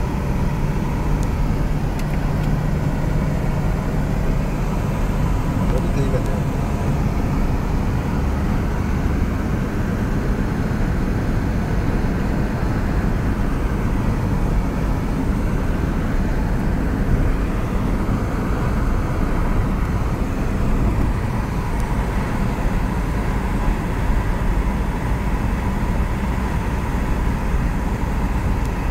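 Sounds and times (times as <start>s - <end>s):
car road noise from inside: 0.0s - 28.9s.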